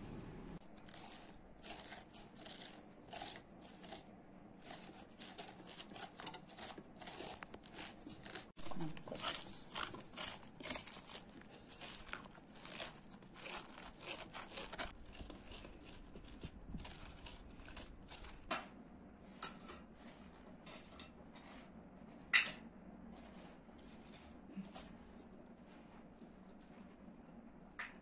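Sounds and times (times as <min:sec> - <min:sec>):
spoons scraping squash: 0:00.6 - 0:18.5, 0:19.2 - 0:21.7, 0:23.2 - 0:25.8.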